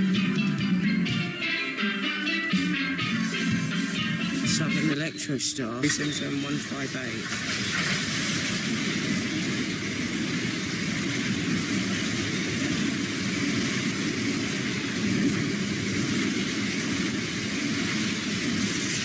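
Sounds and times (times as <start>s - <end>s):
train wheels running on rails: 0.0s - 19.0s.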